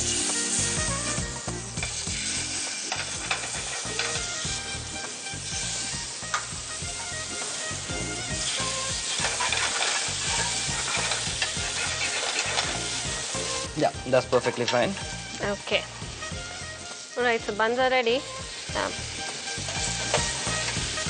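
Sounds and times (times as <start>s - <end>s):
food sizzling in pans: 0.0s - 21.0s.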